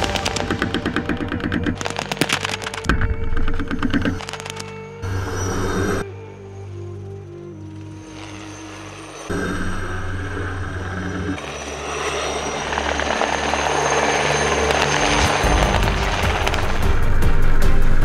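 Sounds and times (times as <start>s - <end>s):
helicopter flying low: 0.0s - 6.0s, 6.8s - 17.8s
helicopter rotor blades beating: 0.0s - 6.0s, 7.9s - 18.0s.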